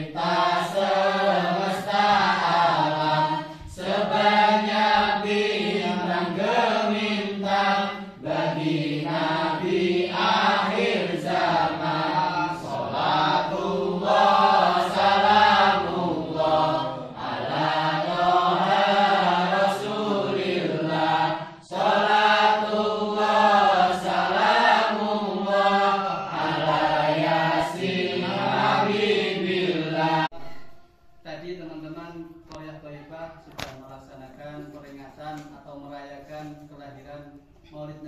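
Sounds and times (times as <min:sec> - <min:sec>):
group of voices chanting: 0:00.0 - 0:30.6.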